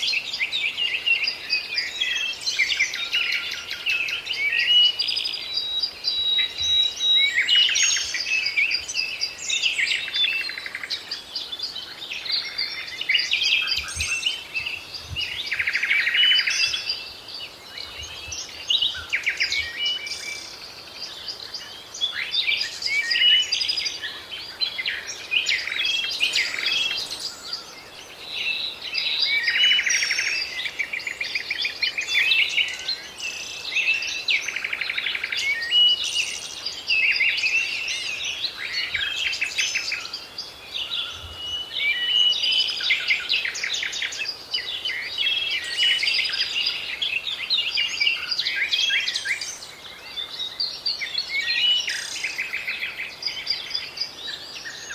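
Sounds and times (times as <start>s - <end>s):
songbirds singing and calling: 0.0s - 54.9s.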